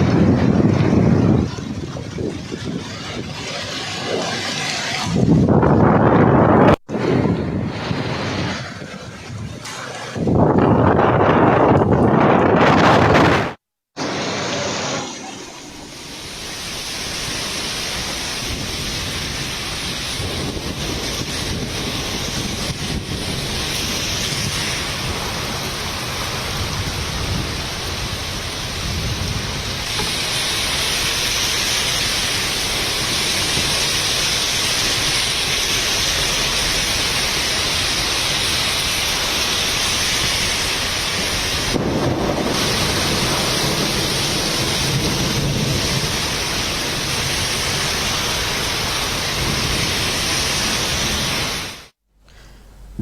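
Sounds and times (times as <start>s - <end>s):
heavy rain pouring: 0.0s - 52.0s
strong wind: 0.0s - 53.0s.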